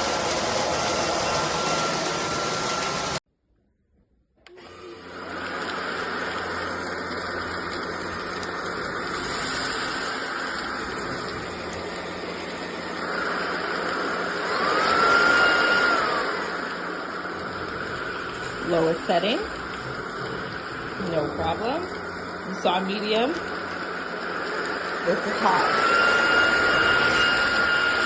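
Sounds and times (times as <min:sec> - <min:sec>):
vacuum cleaner motor humming: 0:00.0 - 0:03.2, 0:04.5 - 0:28.0
vacuum motor whine: 0:00.0 - 0:03.2, 0:04.5 - 0:28.0.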